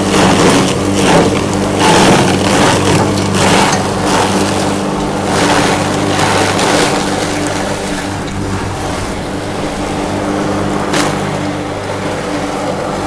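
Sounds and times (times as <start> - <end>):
crusher grinding fodder: 0.0 - 13.0
motor humming: 0.0 - 13.0.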